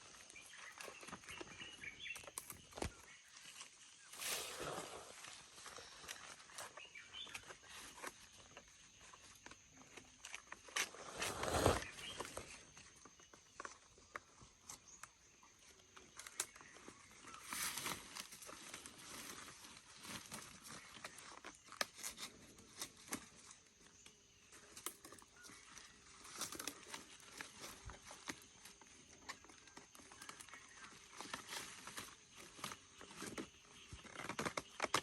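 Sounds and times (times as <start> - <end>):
rustling and crinkling: 0.0 - 35.0.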